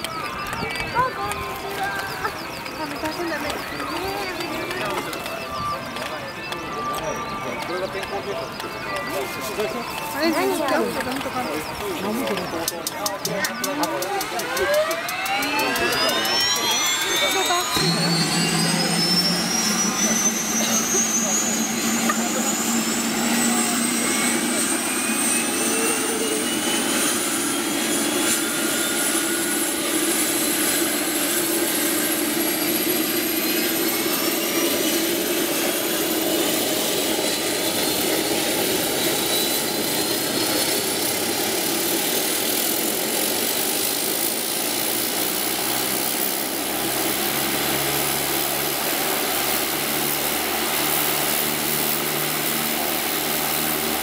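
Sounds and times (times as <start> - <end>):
low engine tone: 0.0 - 54.0
turbine whines climbing in pitch: 0.0 - 54.0
turboprop engine starting up: 0.0 - 54.0.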